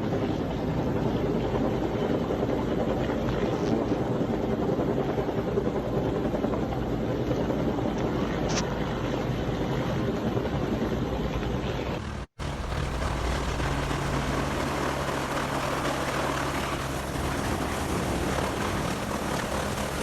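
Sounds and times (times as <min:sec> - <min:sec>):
helicopter running: 0:00.0 - 0:20.0.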